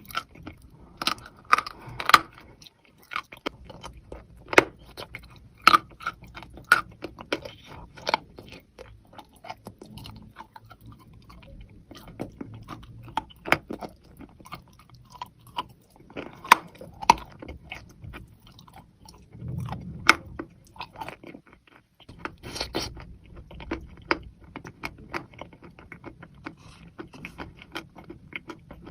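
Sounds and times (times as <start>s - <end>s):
crunching and chewing: 0.0s - 28.9s.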